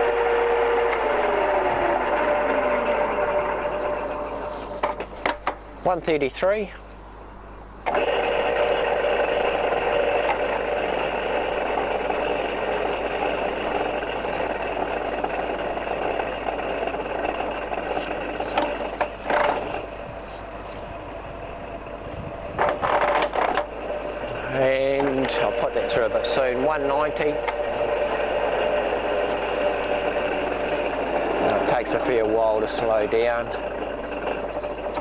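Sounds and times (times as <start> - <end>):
drill motor running with gear whine: 0.0 - 5.2, 7.9 - 35.0.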